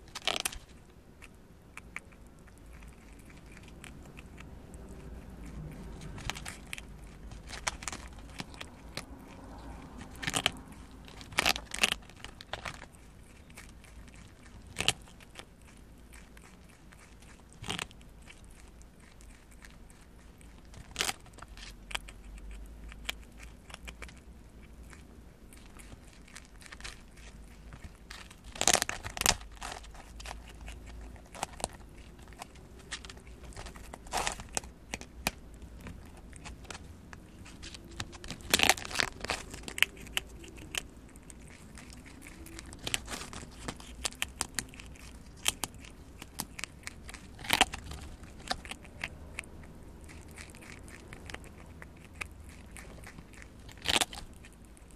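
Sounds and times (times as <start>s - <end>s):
animal crunching on corn: 0.0s - 54.9s.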